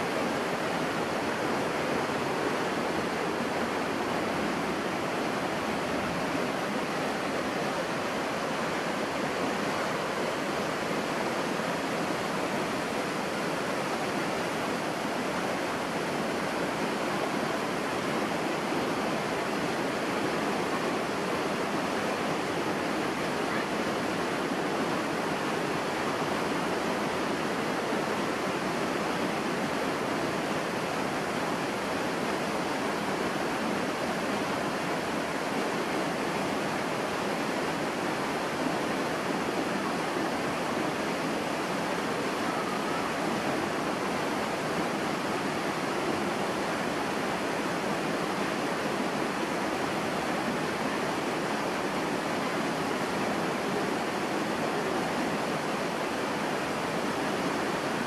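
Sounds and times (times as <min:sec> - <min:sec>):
water rushing over boulders: 0:00.0 - 0:58.0.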